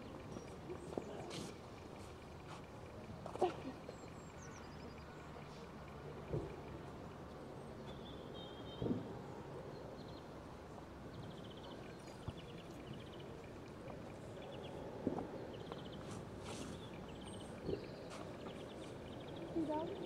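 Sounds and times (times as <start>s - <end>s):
small birds chirping: 0.0s - 8.8s, 9.6s - 20.0s.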